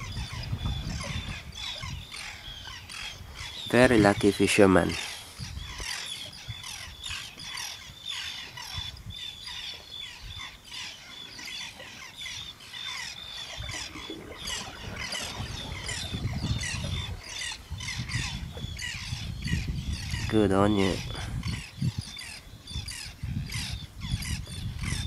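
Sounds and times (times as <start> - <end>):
birds chirping and whistling: 0.0 - 25.0.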